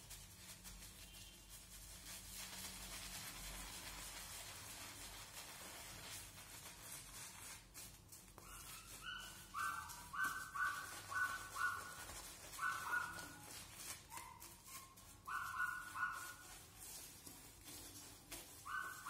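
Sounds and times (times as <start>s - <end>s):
shaving brush swishing: 0.0s - 19.0s.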